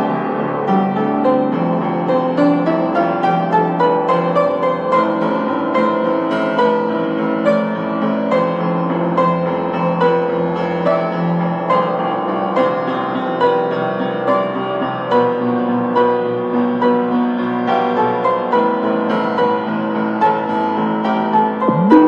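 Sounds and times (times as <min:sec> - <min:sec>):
slow gentle piano piece: 0:00.0 - 0:22.0.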